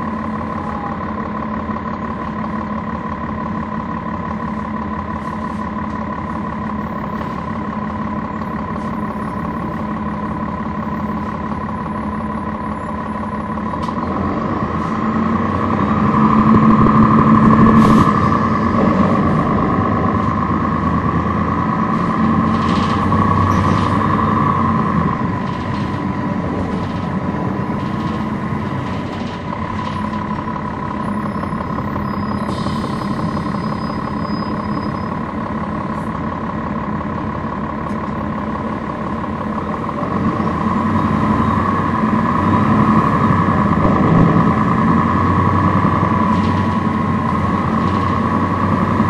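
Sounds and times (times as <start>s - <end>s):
bus diesel engine running: 0.0s - 49.0s
rattles and clicks from bus body: 0.0s - 49.0s.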